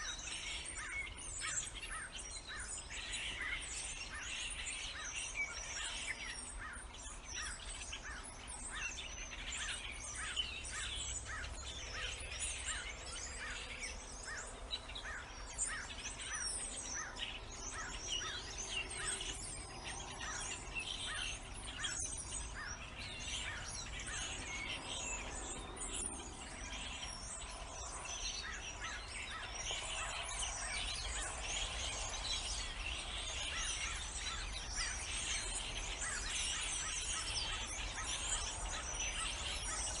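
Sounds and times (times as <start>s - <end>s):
birds chirping and singing: 0.0s - 40.0s.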